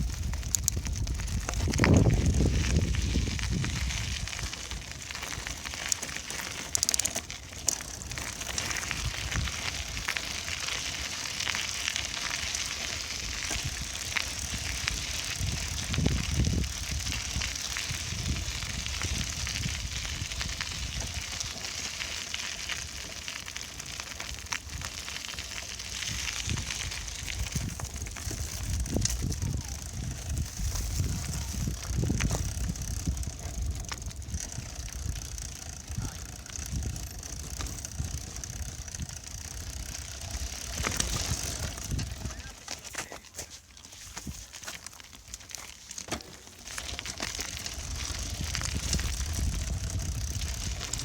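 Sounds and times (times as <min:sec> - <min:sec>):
bicycle clicks and rattles: 0:00.0 - 0:51.0
bicycle tyres rolling on path: 0:00.0 - 0:51.0.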